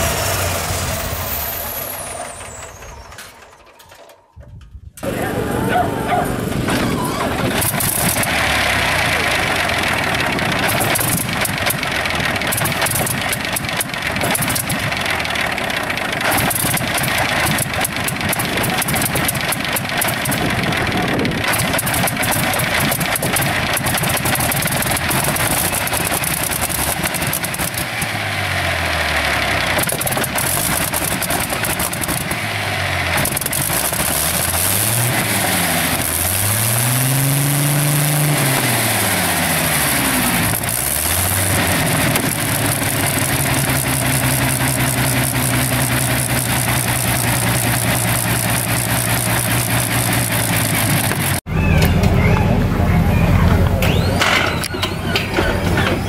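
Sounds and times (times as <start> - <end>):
aero engine running: 0.0 - 4.1, 5.0 - 56.0.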